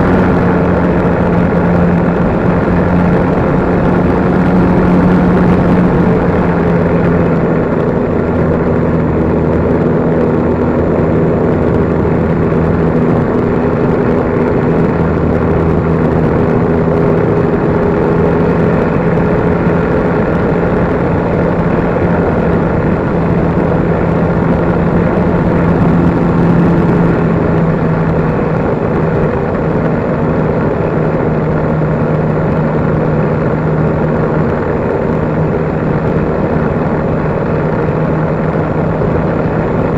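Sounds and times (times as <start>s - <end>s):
model plane motor and propeller humming: 0.0s - 39.9s
rushing air: 0.0s - 39.9s.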